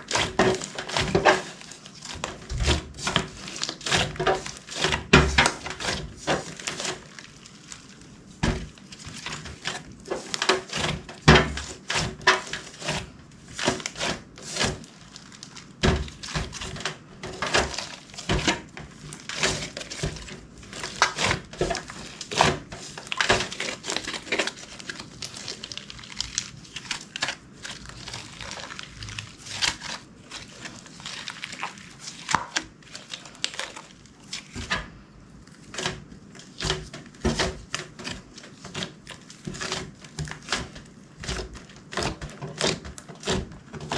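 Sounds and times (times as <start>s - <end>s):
slime squished by hand: 0.0s - 43.9s.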